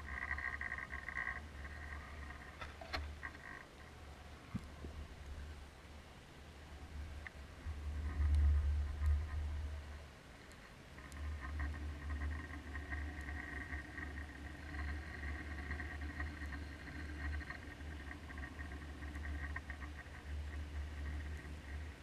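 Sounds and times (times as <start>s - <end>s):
deep underwater hum: 0.0s - 5.5s, 6.9s - 22.0s.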